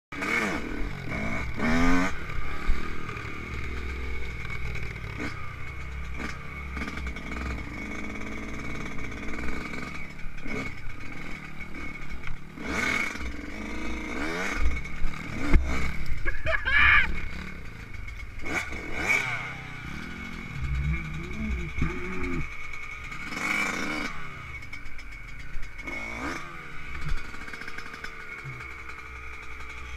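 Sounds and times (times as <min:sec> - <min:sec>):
two-stroke motorbike revving: 0:00.1 - 0:29.9
clatter over bumps: 0:00.2 - 0:16.4, 0:17.1 - 0:29.9.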